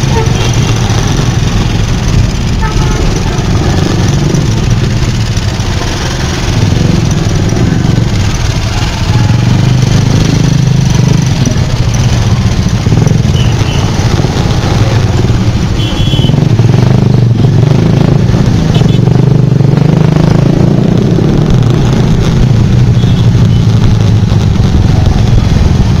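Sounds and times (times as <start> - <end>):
motorbike engine rumble: 0.0 - 26.0
surrounding traffic engines: 0.0 - 26.0.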